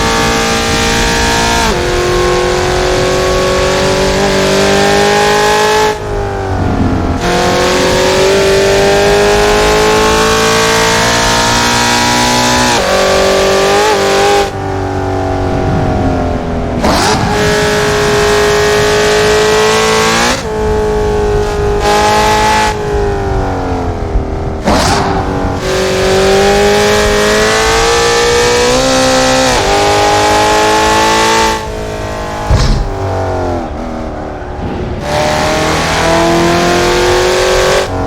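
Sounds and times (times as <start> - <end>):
car engine revving hard: 0.0 - 23.5, 24.6 - 38.0
engine rev blips on downshifts: 0.0 - 38.0.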